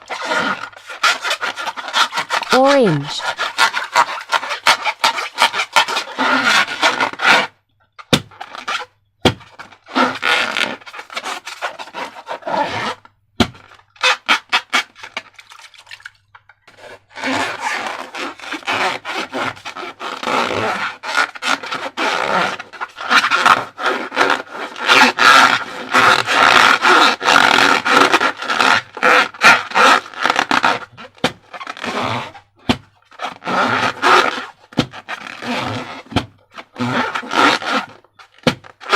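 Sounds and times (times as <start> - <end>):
squeaky balloon rubbing: 0.0 - 7.6, 8.3 - 15.3, 16.7 - 38.9.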